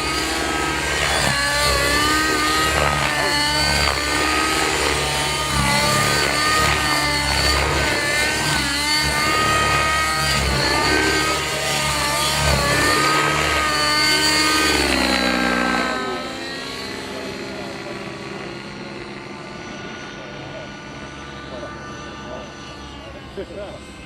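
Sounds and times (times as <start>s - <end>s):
model helicopter rotor whine: 0.0s - 24.0s.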